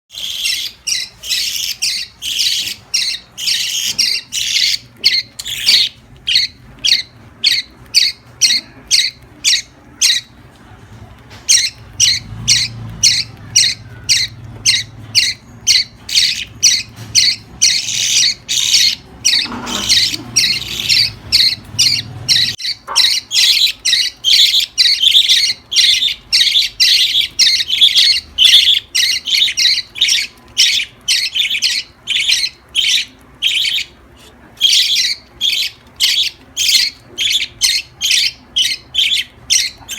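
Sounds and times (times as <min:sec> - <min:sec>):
lovebirds squawking chirps: 0:00.1 - 0:39.9.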